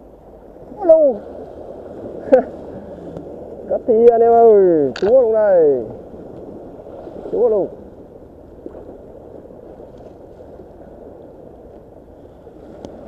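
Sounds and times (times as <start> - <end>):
sea waves on rocky shore: 0.0 - 13.0.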